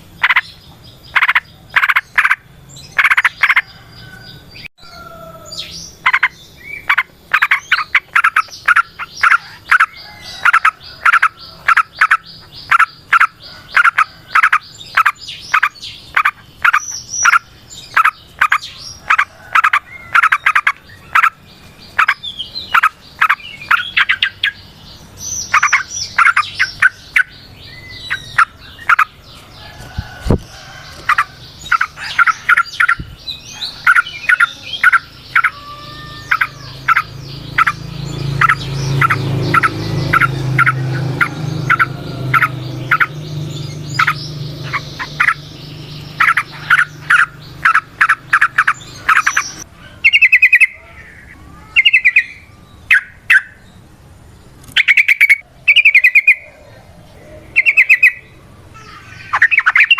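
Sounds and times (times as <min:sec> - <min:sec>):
bird chirping and trilling: 0:00.0 - 0:59.9.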